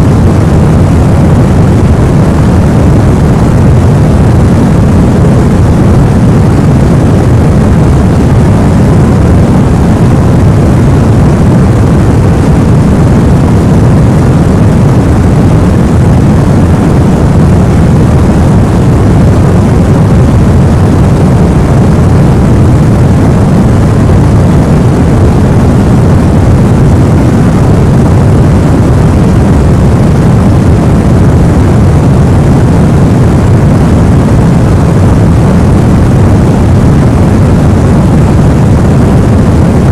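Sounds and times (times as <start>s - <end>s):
deep rumbling white noise: 0.0s - 39.9s.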